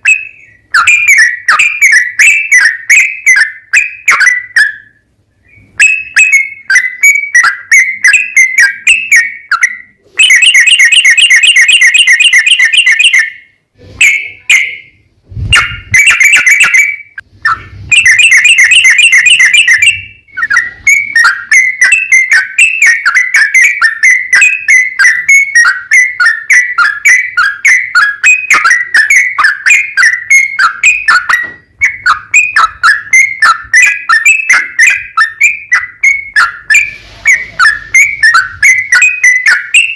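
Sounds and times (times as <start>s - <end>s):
bulbul whistled chirps: 0.0s - 39.9s
fast rattling bird trill: 0.0s - 39.9s.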